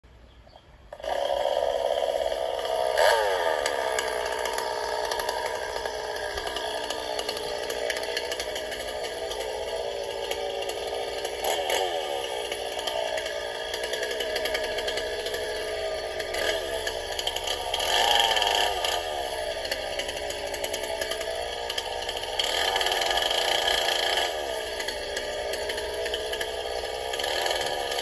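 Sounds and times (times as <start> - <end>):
chainsaw idling and revving: 0.9 - 28.0.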